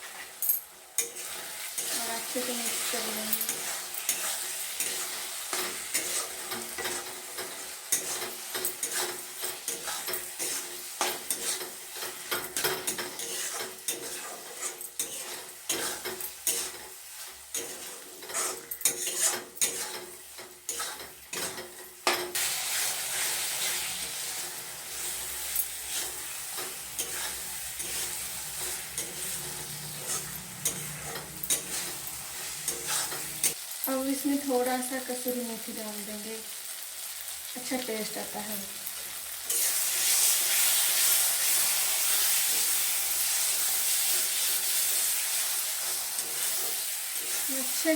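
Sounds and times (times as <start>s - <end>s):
food sizzling in oil: 0.0s - 47.9s
utensil scraping a pan: 1.0s - 33.6s, 39.5s - 47.9s.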